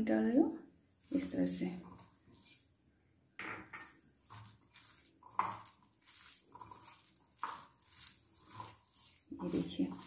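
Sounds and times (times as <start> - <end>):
hand squishing wet batter: 0.1 - 10.0.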